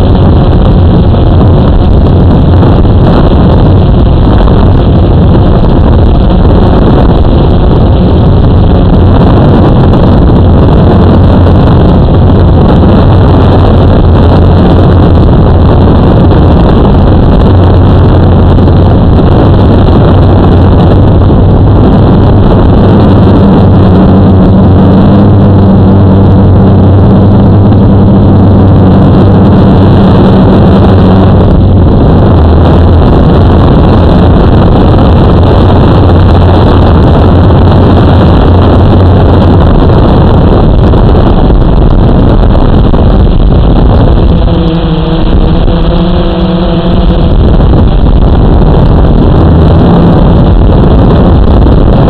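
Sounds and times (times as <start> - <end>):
drone motors humming: 0.0 - 52.0
wind on microphone: 0.0 - 52.0.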